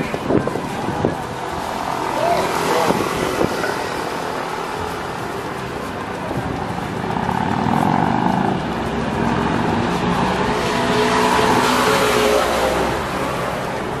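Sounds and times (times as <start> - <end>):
cars passing on street: 0.0 - 14.0.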